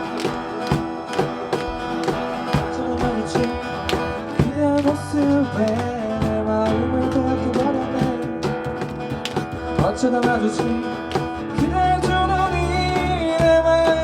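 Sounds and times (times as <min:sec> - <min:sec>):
acoustic guitar strumming: 0:00.0 - 0:14.0
held melody line: 0:00.0 - 0:14.0.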